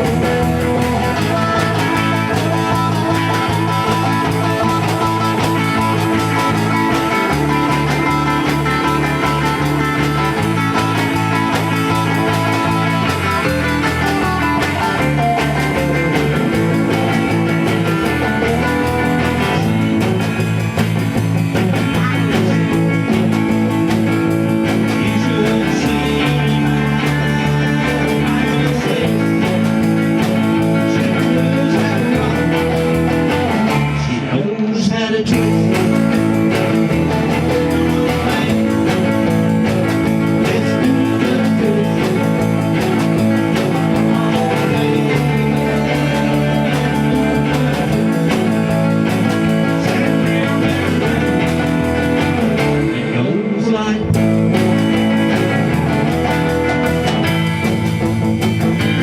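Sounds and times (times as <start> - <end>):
bass line: 0.0 - 59.0
blues-rock band playing: 0.0 - 59.0
lead guitar: 0.0 - 59.0.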